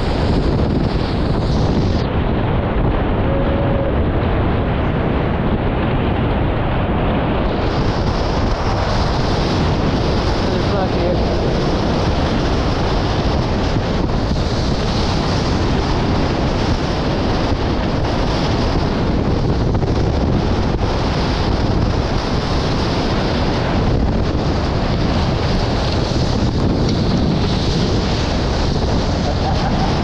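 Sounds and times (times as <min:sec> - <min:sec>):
water rushing past hulls: 0:00.0 - 0:30.0
wind buffeting microphone: 0:00.0 - 0:30.0.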